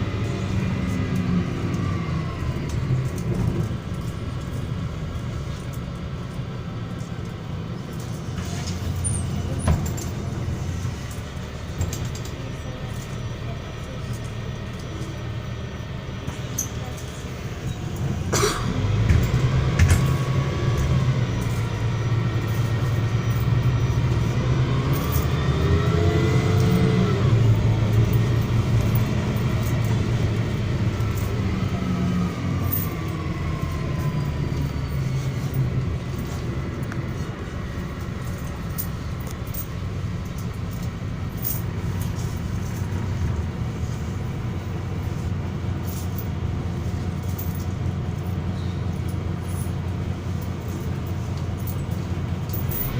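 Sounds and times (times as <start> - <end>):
bus engine drone: 0.0 - 52.9.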